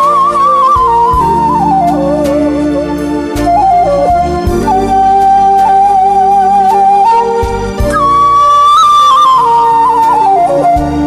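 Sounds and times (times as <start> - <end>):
backing accompaniment: 0.0 - 11.0
bamboo flute melody: 0.0 - 11.0.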